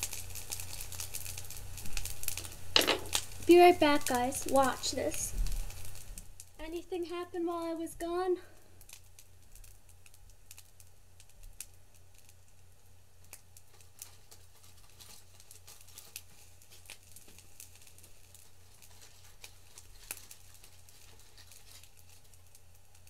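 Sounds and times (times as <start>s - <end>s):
plastic wrap crinkling: 0.0s - 12.5s, 13.2s - 23.0s.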